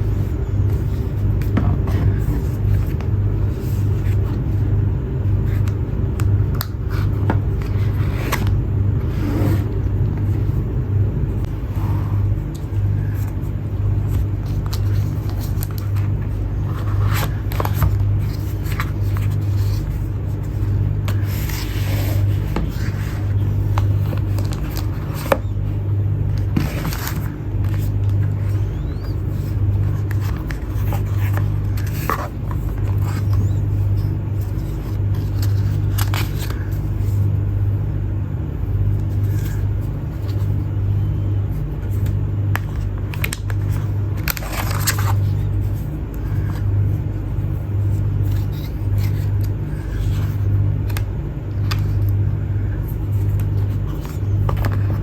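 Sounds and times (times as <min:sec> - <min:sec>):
packaging rustling and scraping: 0:00.0 - 0:10.7, 0:11.4 - 0:37.5, 0:38.8 - 0:55.0
steady low hum: 0:00.0 - 0:55.0.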